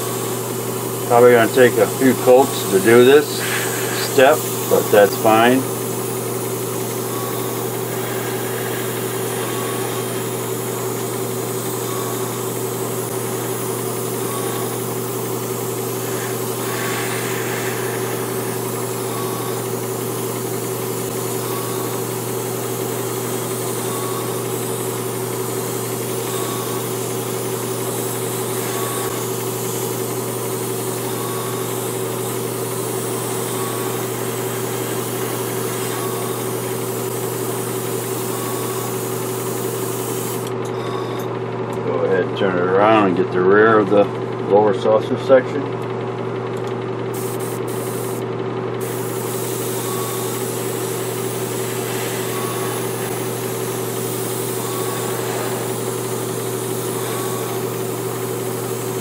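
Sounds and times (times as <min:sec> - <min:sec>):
airbrush spraying hiss: 0:00.0 - 0:40.5, 0:47.1 - 0:48.2, 0:48.8 - 0:59.0
airbrush compressor humming: 0:00.0 - 0:41.0, 0:46.4 - 0:59.0.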